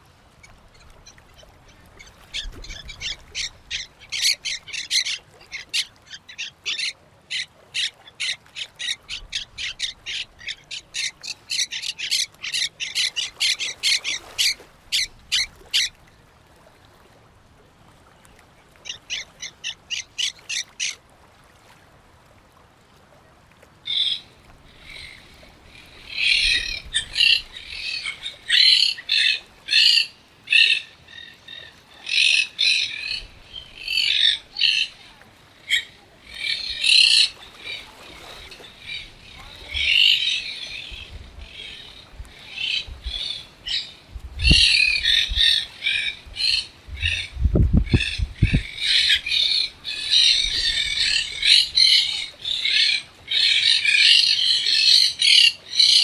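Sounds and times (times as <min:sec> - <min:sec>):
other birds calling: 0:00.4 - 0:16.0, 0:18.8 - 0:21.0, 0:23.9 - 0:56.0.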